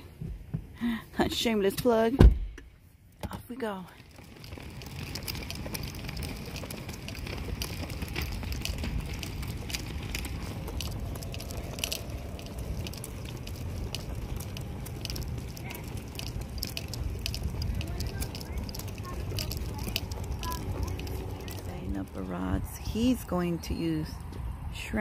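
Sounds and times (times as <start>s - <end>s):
wagon wheels rumbling on concrete: 0.0s - 2.2s, 2.9s - 25.0s
wagon load clicking and rattling: 3.2s - 25.0s.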